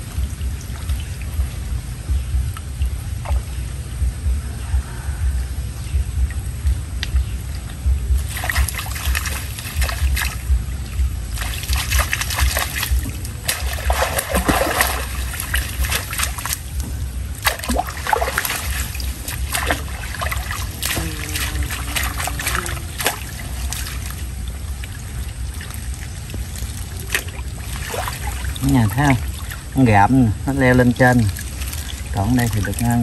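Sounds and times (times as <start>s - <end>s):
low rumble: 0.0s - 33.0s
water trickling: 0.0s - 33.0s
water splashing: 6.2s - 33.0s.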